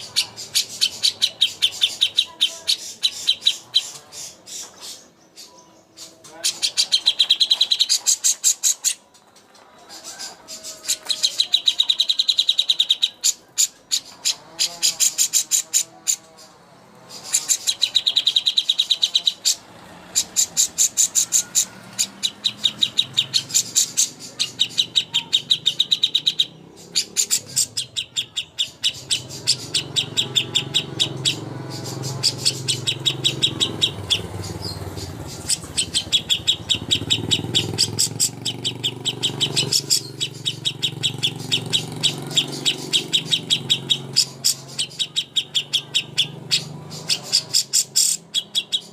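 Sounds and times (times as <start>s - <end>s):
songbird chattering trills: 0.0s - 48.9s.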